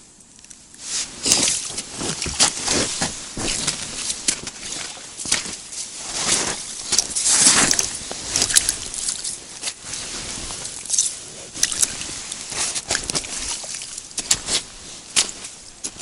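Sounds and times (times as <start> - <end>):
rustling: 0.8 - 16.0
slush sloshing and squelching: 0.8 - 16.0
splashing: 1.2 - 16.0.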